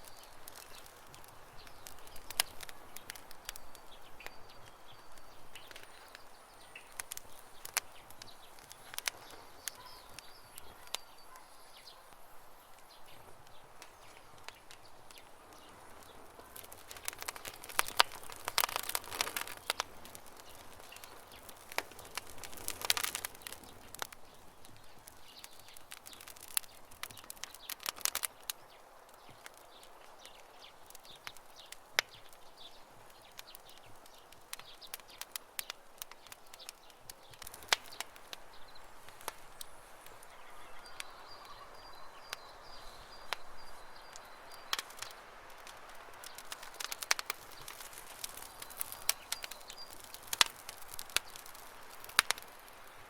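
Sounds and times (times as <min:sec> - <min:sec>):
birds chirping faintly: 0:00.0 - 0:53.0
campfire crackling and popping: 0:00.0 - 0:53.0.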